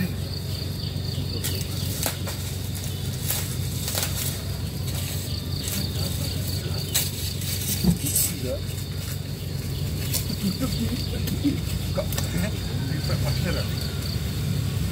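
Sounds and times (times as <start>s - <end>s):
engine idling low hum: 0.0s - 14.9s
insects chirping: 0.0s - 14.9s.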